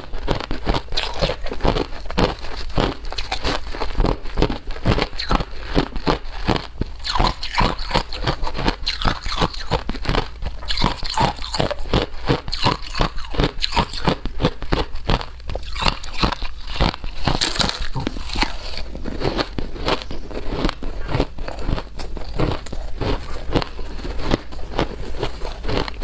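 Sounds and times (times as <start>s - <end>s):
ice being chewed with crunches: 0.0s - 26.0s.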